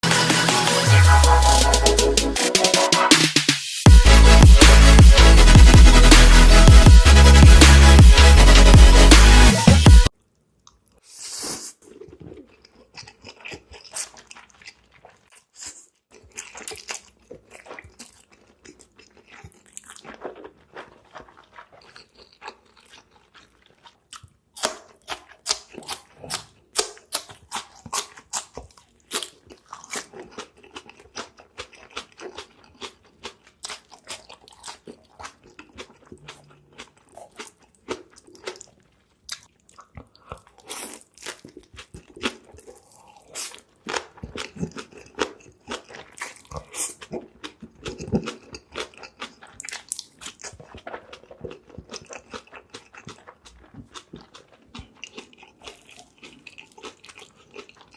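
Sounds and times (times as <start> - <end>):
person biting and chewing food: 3.9 - 57.9.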